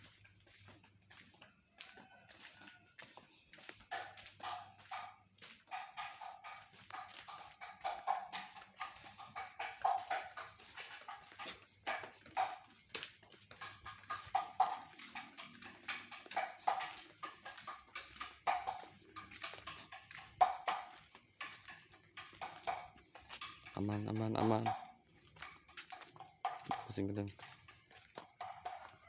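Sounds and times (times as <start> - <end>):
slit drum hollow knocks: 3.9 - 12.7, 13.4 - 28.9.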